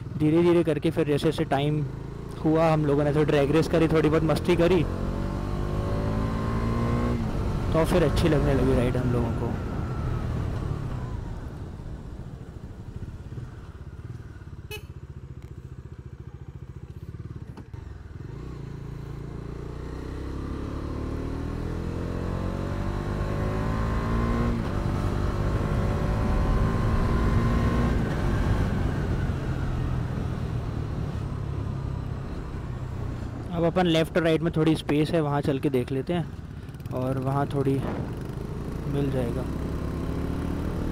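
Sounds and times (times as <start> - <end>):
motorcycle engine accelerating: 1.6 - 34.5, 36.1 - 40.9.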